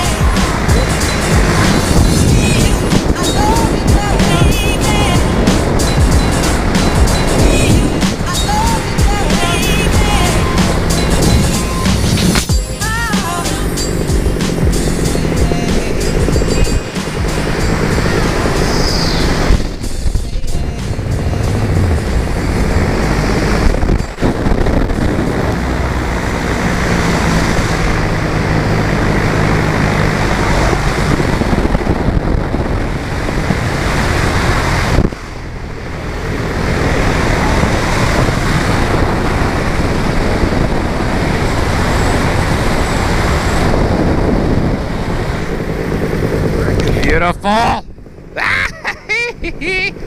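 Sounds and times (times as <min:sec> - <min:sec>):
two-stroke engine running: 0:00.0 - 0:48.3
wind noise on microphone: 0:00.0 - 0:50.0.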